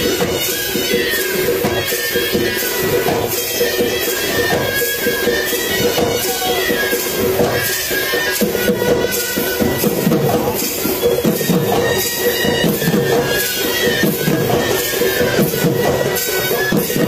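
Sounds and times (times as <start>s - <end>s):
drums beating quick rhythm: 0.0s - 17.0s.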